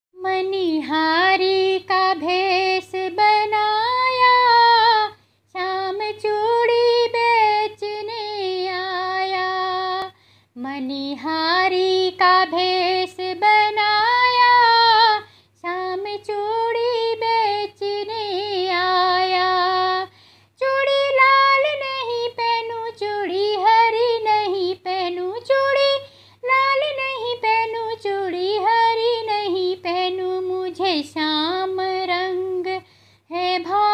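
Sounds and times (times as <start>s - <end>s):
woman singing unaccompanied: 0.2s - 33.9s.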